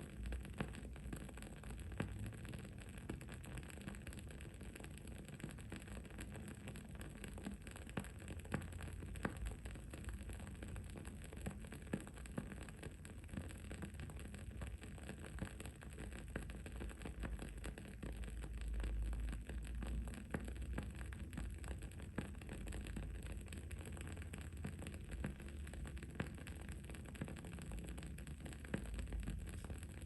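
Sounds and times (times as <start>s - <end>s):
candle crackling: 0.1s - 30.0s.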